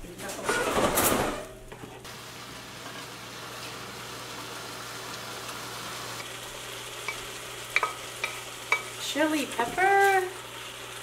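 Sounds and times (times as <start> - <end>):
sauce sizzling in frying pan: 2.0 - 11.0.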